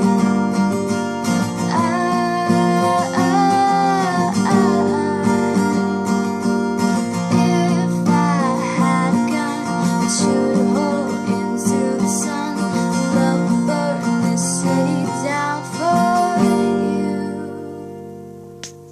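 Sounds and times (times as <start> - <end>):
acoustic guitar strumming chords: 0.0 - 18.9.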